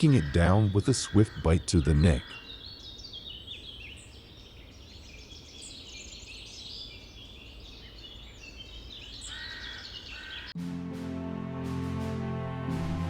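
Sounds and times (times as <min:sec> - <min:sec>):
birds chirping and calling: 0:00.0 - 0:10.5.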